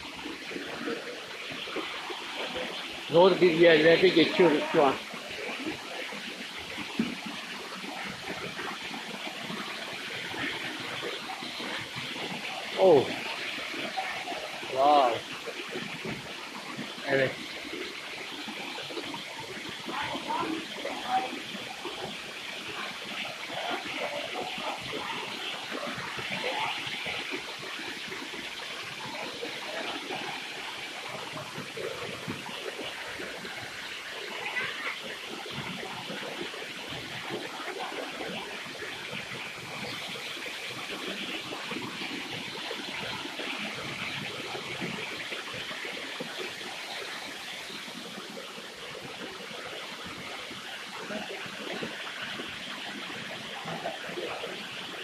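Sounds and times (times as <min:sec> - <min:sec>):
stream and waterfall rushing: 0:00.0 - 0:55.0.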